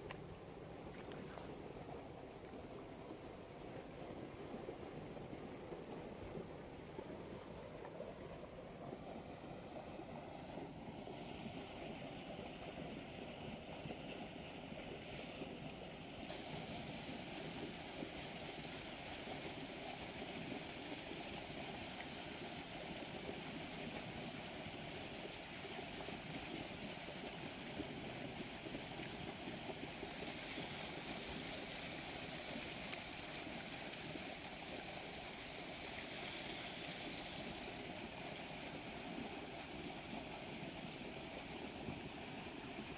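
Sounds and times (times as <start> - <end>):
water rushing down a canal: 0.0 - 42.9.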